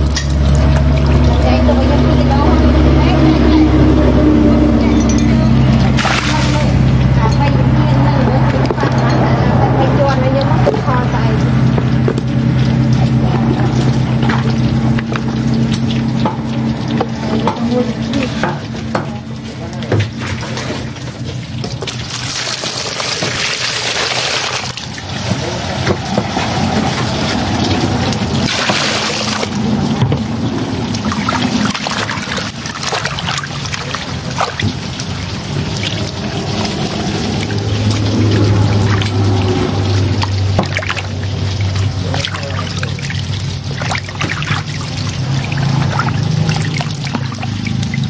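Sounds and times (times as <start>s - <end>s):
low steady hum: 0.0s - 48.0s
water splashing and sloshing: 0.0s - 48.0s
water pouring into plastic bucket: 5.6s - 48.0s.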